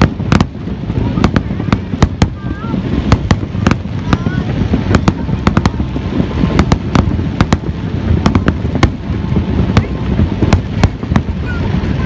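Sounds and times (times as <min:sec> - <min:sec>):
fireworks rumble and crackle: 0:00.0 - 0:12.0
fireworks sharp bangs: 0:00.0 - 0:12.0.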